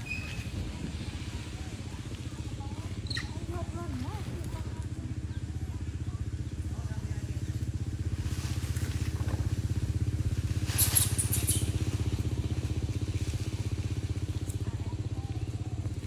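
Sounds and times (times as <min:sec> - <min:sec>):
engine running with pulsing drone: 0:00.0 - 0:16.0.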